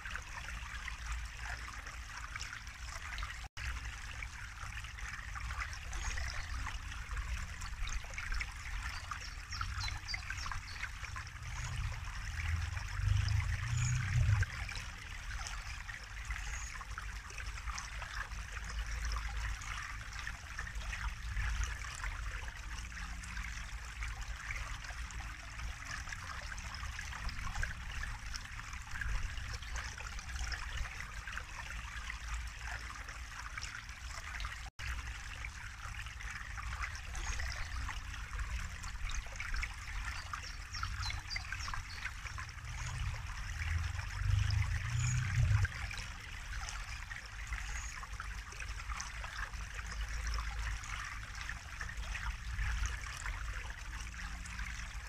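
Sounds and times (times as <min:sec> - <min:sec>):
brook babbling over stones: 0:00.0 - 0:55.0.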